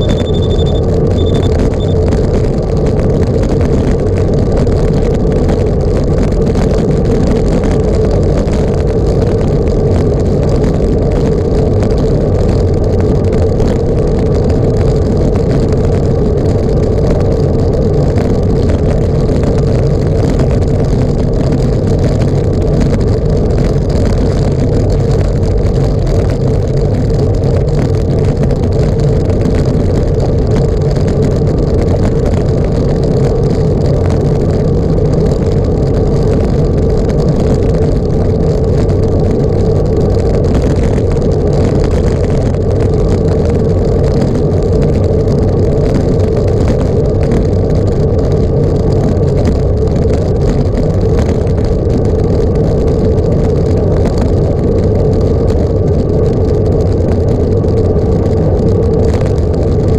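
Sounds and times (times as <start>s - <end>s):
vehicle drone in motion: 0.0s - 59.9s.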